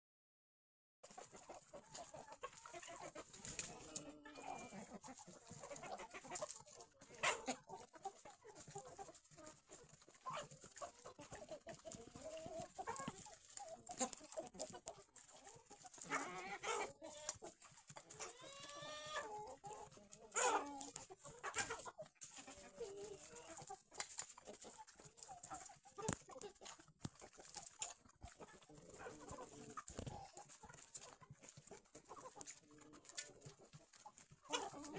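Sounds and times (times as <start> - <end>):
hens clucking: 1.0 - 34.9.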